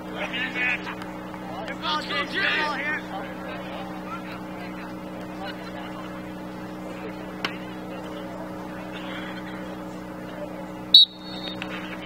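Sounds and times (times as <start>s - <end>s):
electrical hum: 0.0s - 12.0s
faint distant voices: 0.0s - 12.0s.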